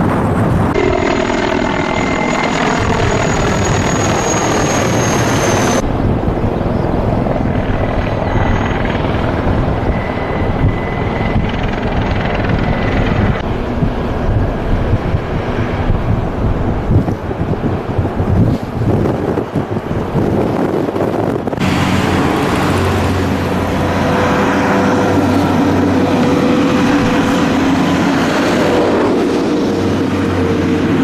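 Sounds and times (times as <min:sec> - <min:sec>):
helicopters flying overhead: 0:00.0 - 0:31.0.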